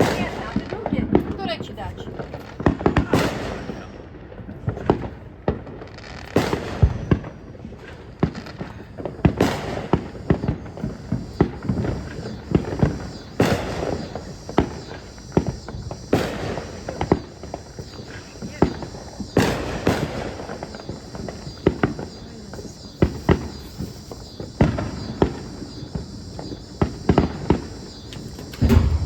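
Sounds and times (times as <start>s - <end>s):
fireworks bangs and crackles: 0.0s - 29.0s
fireworks booms: 0.0s - 29.0s.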